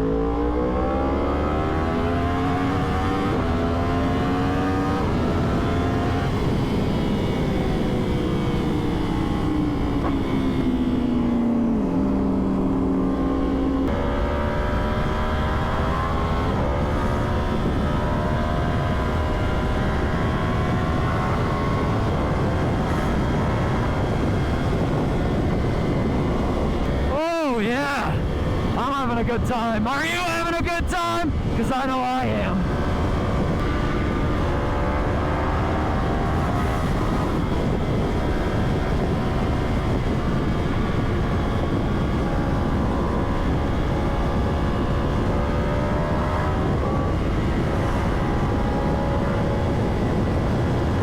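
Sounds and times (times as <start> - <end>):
motorcycle engine shifting gears: 0.2 - 27.3, 32.4 - 51.0.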